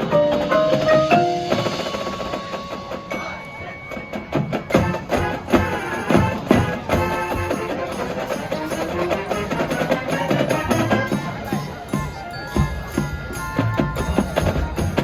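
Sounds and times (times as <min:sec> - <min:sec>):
marching band playing: 0:00.0 - 0:15.0
sharp percussion strikes: 0:00.0 - 0:15.0.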